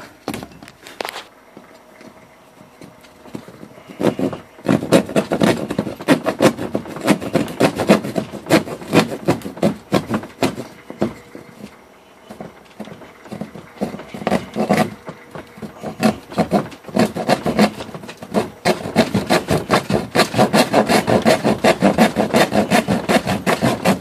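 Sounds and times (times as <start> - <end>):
hand saw cutting hardboard: 3.4 - 11.5, 12.3 - 24.0.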